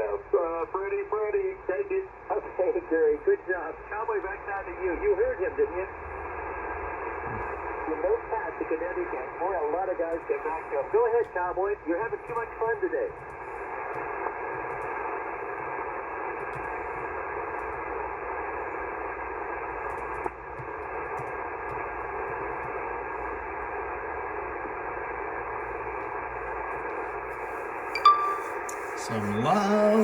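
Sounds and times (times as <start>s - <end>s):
radio receiver static hiss: 0.0s - 30.0s.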